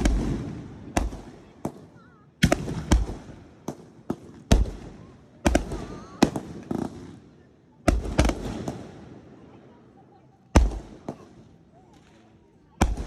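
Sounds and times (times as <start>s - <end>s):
fireworks bangs: 0.0s - 7.3s, 7.9s - 9.7s, 10.6s - 12.1s, 12.7s - 13.0s.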